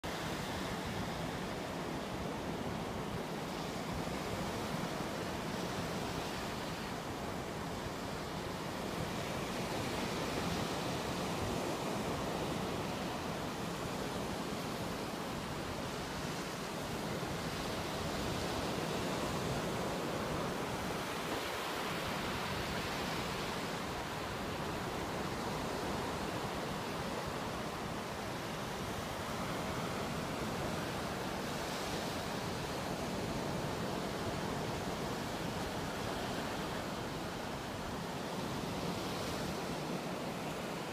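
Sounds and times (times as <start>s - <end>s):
ocean waves washing onto beach: 0.0s - 40.9s.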